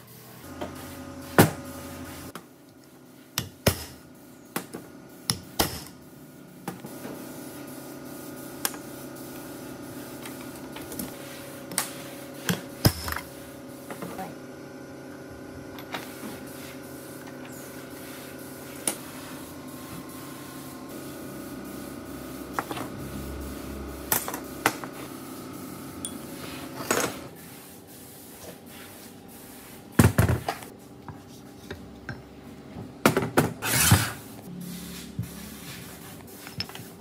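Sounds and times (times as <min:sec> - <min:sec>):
workshop hum: 0:00.0 - 0:37.0.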